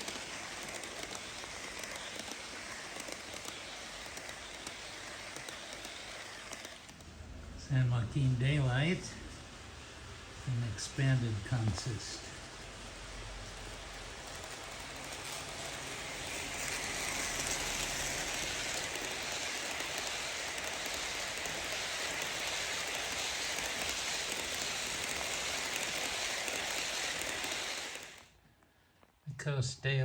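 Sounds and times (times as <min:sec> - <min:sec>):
model train wheels hissing: 0:00.0 - 0:28.6.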